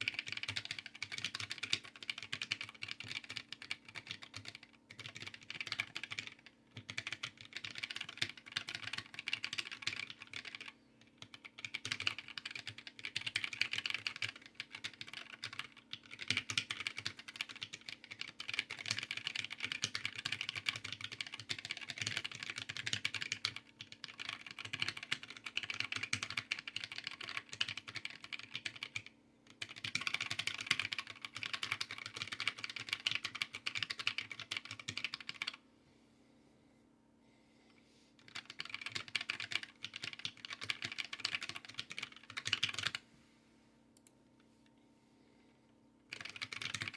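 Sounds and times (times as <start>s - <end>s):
mechanical keyboard typing: 0.0s - 35.6s, 38.3s - 43.0s, 46.1s - 46.9s.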